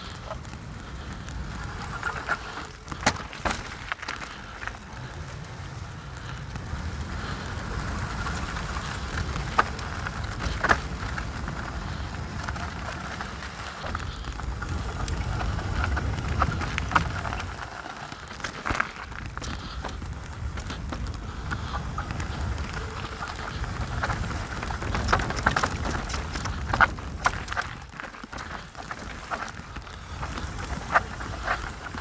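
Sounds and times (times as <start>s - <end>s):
bike clanking on rocks: 0.0s - 5.4s, 7.2s - 32.0s
bike tyre and wind noise: 0.0s - 32.0s.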